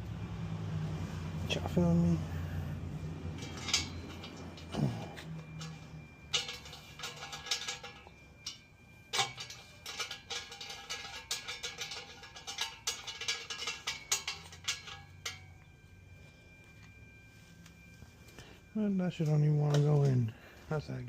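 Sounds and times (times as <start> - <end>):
metal tools clinking on exhaust: 1.3 - 17.0, 17.7 - 21.0.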